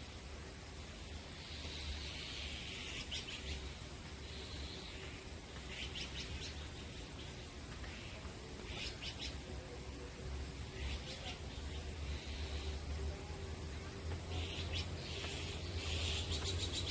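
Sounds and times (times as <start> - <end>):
steady background hiss: 0.0 - 16.9
small birds chirping: 1.3 - 9.8, 10.6 - 16.9.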